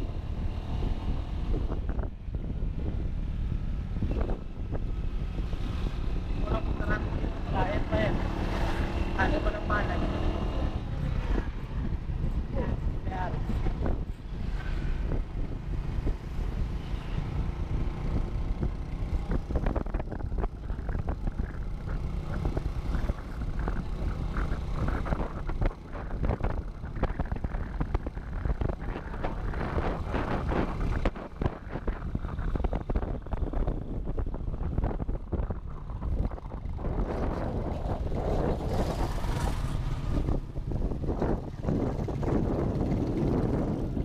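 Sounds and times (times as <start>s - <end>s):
motorcycle engine and road rumble: 0.0s - 44.0s
wind buffeting microphone: 0.0s - 44.0s.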